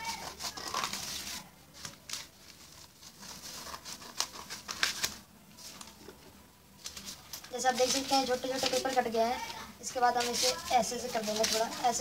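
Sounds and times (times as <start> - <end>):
scissors cutting newspaper: 0.0 - 6.0, 6.8 - 12.0
paper rustling: 0.0 - 12.0.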